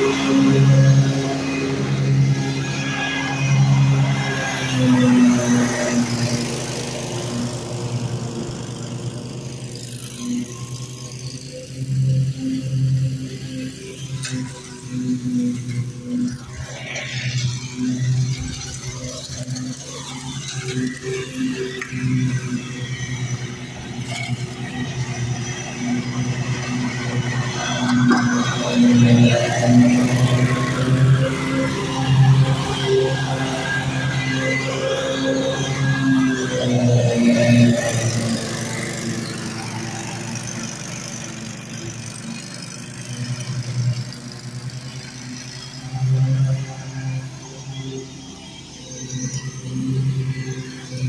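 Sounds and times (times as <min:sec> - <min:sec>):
riding mower engine running: 0:00.0 - 0:51.0.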